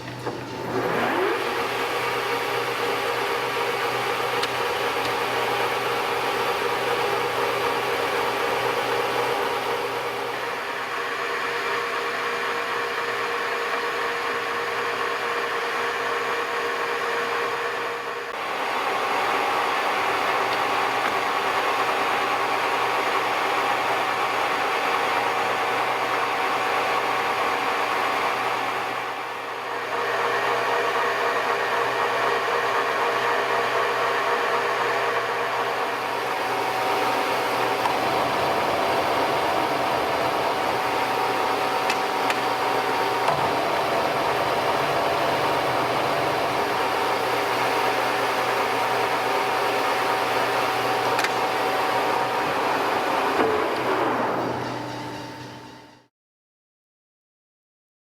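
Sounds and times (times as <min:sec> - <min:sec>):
lathe motor and gearing whine: 0:00.0 - 0:56.1.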